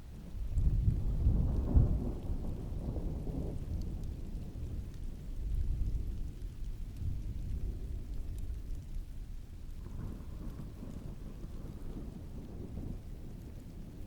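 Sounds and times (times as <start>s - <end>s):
heavy rain: 0.0s - 14.0s
distant thunder rumble: 0.5s - 14.0s.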